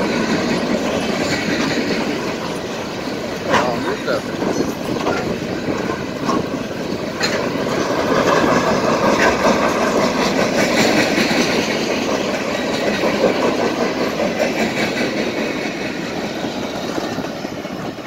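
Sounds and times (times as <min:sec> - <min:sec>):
train wheels rumbling on rail: 0:00.0 - 0:18.0
wheels clacking over rail joints: 0:00.0 - 0:18.0.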